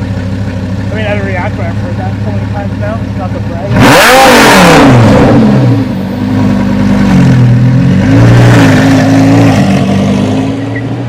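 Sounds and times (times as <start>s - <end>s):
car engine revving: 0.7s - 11.0s.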